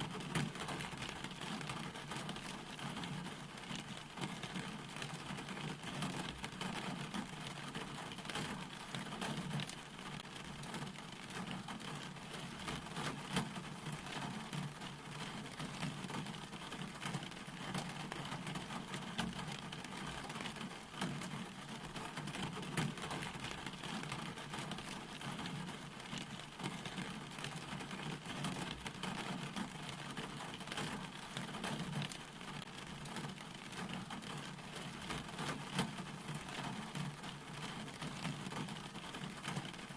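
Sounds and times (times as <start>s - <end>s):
raindrops hitting surfaces: 0.0s - 39.9s
steady rain falling: 0.0s - 39.9s.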